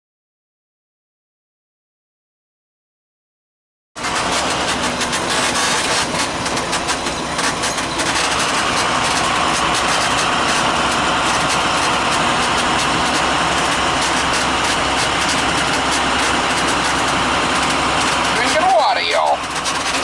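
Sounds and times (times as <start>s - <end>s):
vehicle engine running: 4.0s - 20.0s.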